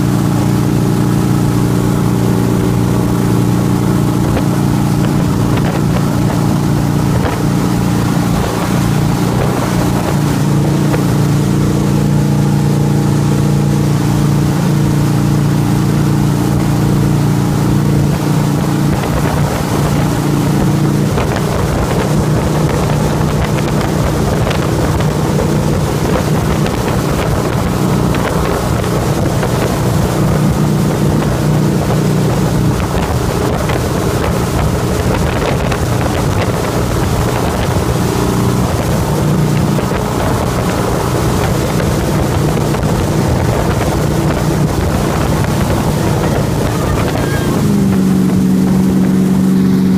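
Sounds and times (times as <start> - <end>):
churning wake water: 0.0 - 49.9
motorboat engine running: 0.0 - 49.9
wind buffeting microphone: 0.0 - 49.9.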